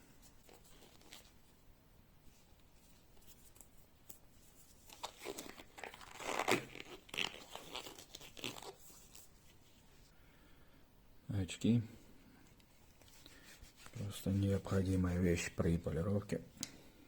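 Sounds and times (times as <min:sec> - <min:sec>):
gloves rustling and crinkling: 0:00.0 - 0:10.2, 0:12.4 - 0:16.4.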